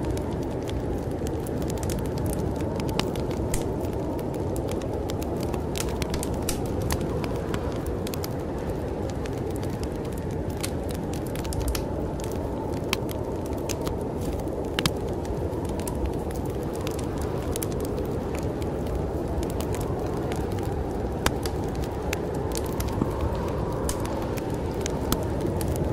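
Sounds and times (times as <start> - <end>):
snowstorm wind: 0.0 - 25.9
wood fire crackling and popping: 0.0 - 25.9.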